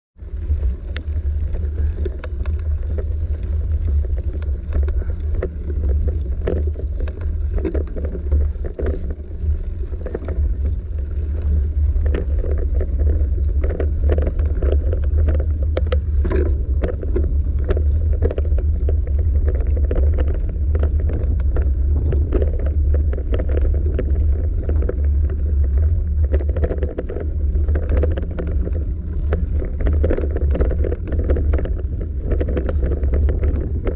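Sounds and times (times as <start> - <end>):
bike tyres on dirt: 0.2 - 33.9
wind rumble on microphone: 0.2 - 33.9
bike clicks and rattles: 0.3 - 33.9.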